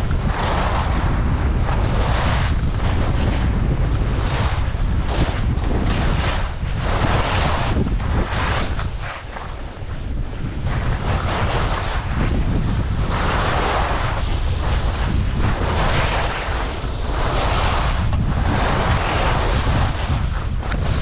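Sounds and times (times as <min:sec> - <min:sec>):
skis scraping on packed snow: 0:00.0 - 0:21.0
wind buffeting microphone: 0:00.0 - 0:21.0.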